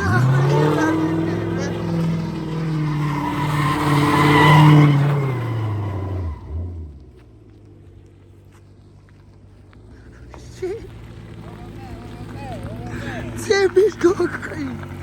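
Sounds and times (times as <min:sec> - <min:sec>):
tires squealing: 0:00.0 - 0:07.2, 0:08.8 - 0:15.0
car engine revving: 0:00.0 - 0:08.0, 0:09.8 - 0:15.0.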